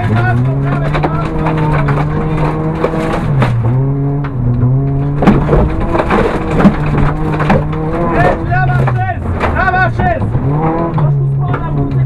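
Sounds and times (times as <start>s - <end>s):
knocks and clatter: 0.0s - 12.0s
rally car engine at high revs: 0.0s - 12.0s.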